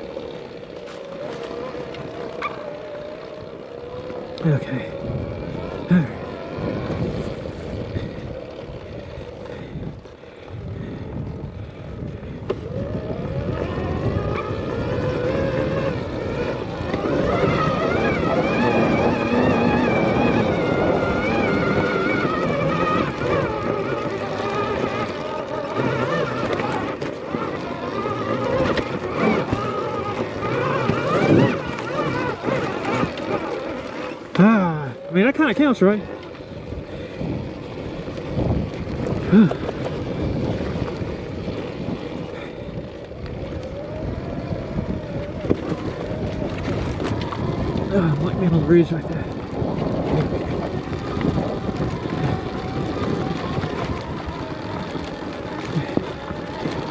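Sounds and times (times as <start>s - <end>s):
electric motorbike motor whining: 0.0s - 56.9s
tyres rumbling on rough ground: 0.0s - 56.9s
wind buffeting microphone: 0.0s - 56.9s.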